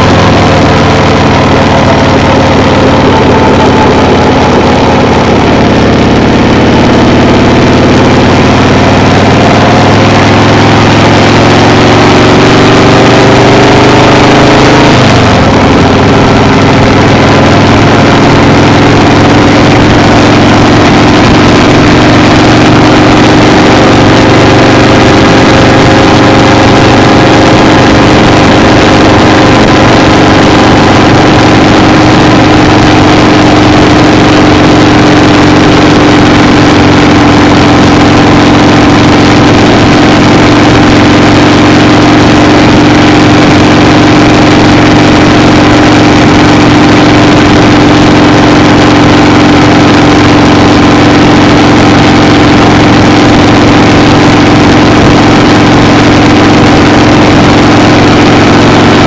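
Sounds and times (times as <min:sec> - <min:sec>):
vehicle engine running loudly: 0:00.0 - 0:59.0.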